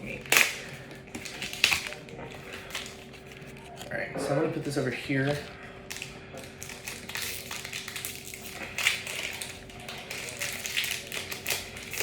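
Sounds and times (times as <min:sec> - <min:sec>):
foil wrapper crinkling: 0:00.0 - 0:03.9, 0:05.3 - 0:12.0.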